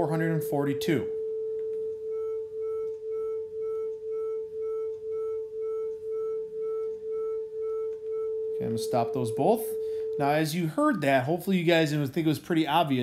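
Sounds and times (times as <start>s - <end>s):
beating electronic test tones: 0.0s - 13.0s.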